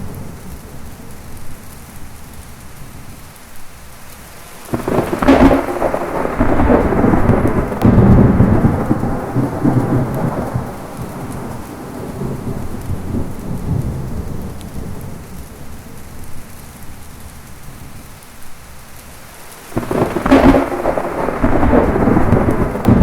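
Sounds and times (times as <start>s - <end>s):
thunderclap with rolling rumble: 0.0s - 3.2s, 4.7s - 18.1s, 19.7s - 23.0s
heavy rain falling: 0.0s - 23.0s.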